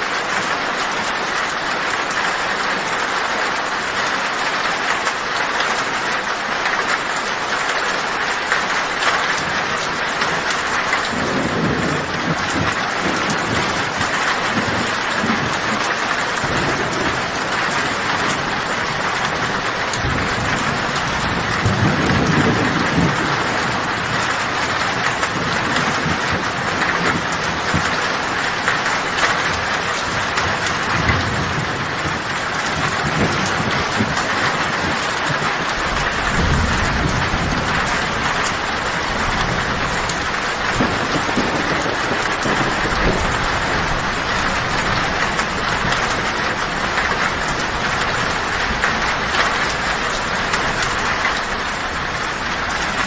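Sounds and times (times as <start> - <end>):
heavy rain on a tin roof: 0.0 - 53.0
rolling thunder: 8.8 - 53.0.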